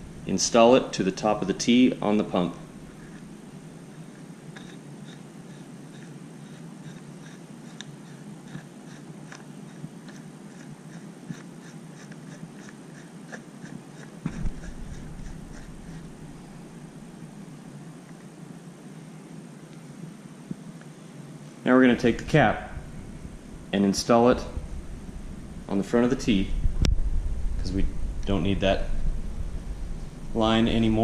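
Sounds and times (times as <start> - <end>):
low hum: 0.0 - 11.0, 12.2 - 31.0.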